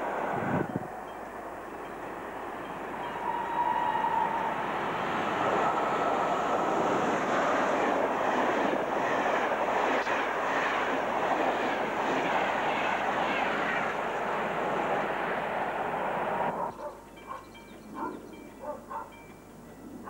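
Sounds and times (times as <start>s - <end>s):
train passing close by: 0.0s - 20.0s.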